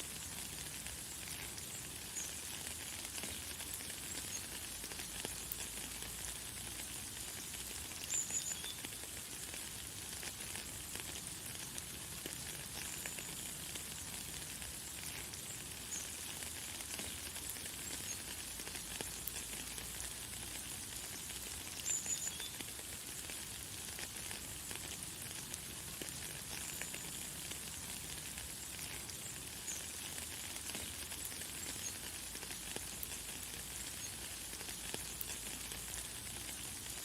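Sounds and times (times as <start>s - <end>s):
light rain falling: 0.0s - 37.0s.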